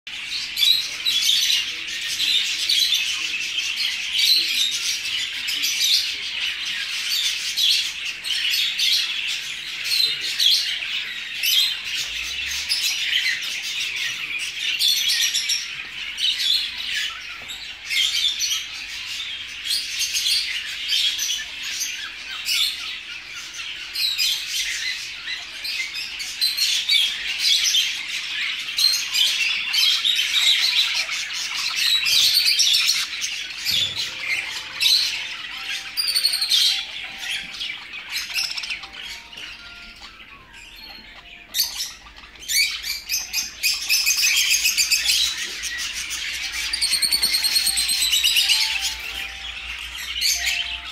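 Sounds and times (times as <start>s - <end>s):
caged birds chirping and chattering: 0.1s - 50.9s.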